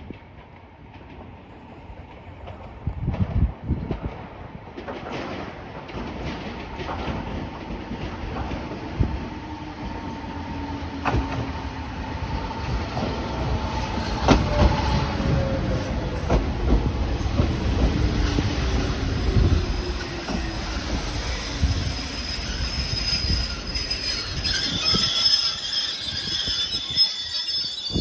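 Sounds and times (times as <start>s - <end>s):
train rumbling on rails: 0.0s - 28.0s
rail joint clicks: 3.9s - 28.0s.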